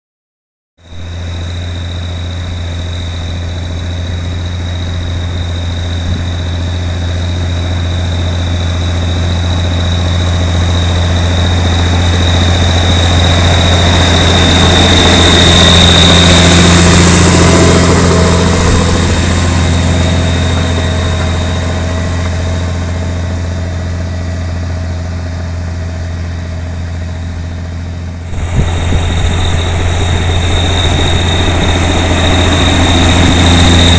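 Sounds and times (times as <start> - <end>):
steady high whine: 0.8 - 33.9
tractor diesel engine running: 0.8 - 33.9.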